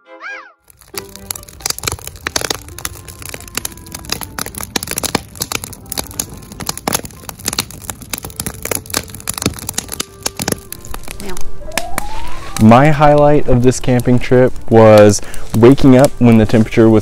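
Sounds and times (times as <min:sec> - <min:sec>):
campfire crackling and popping: 0:00.6 - 0:17.0.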